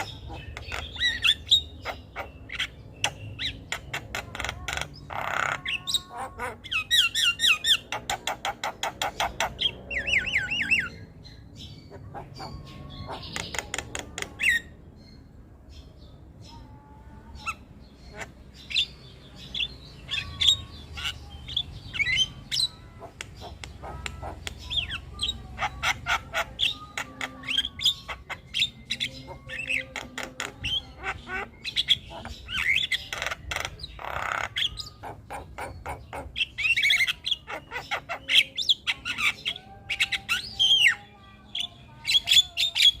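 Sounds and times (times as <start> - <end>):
myna bird singing: 0.0 - 43.0.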